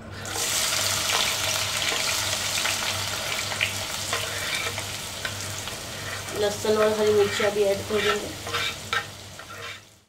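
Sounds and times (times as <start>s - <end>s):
onions sizzling in hot oil: 0.2s - 10.0s.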